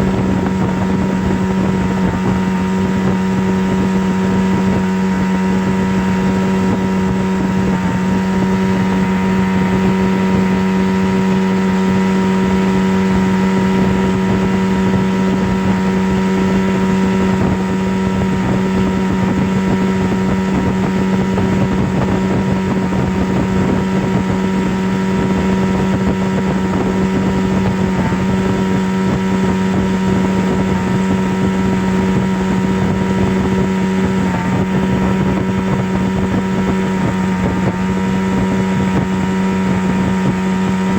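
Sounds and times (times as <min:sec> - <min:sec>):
steady low drone: 0:00.0 - 0:40.9.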